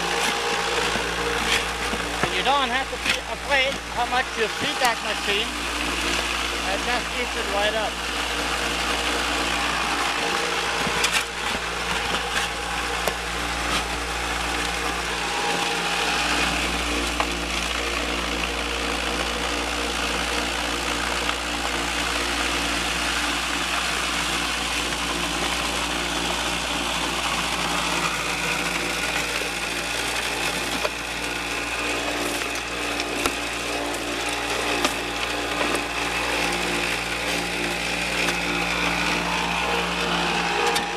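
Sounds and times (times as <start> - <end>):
shaker deck humming and rattling: 0.0 - 40.9.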